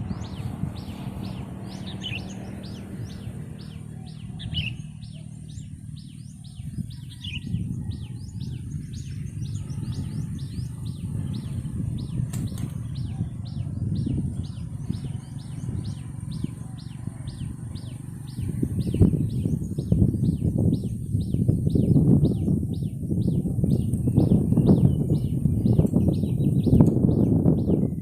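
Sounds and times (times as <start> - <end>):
small bird chirping: 0.0 - 28.0
steady low rumble: 0.0 - 28.0.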